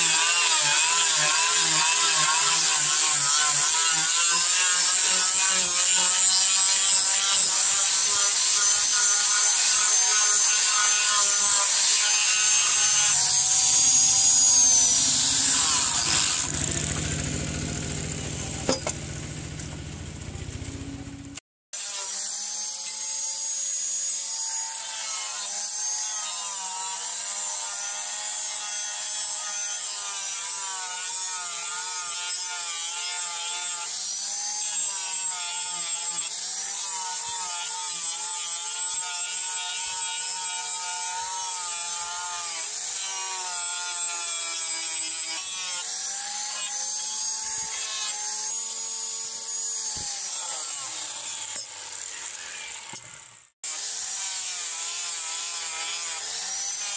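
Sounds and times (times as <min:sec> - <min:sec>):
angle grinder grinding steel: 0:00.0 - 0:56.9.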